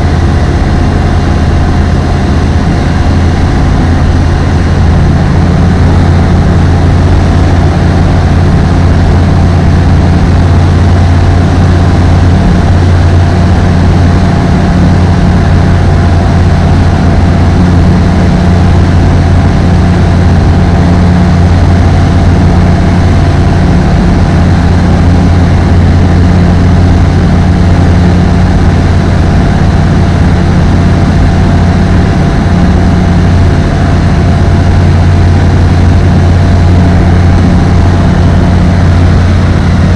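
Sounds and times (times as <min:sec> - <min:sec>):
microlight engine droning: 0:00.0 - 0:39.9.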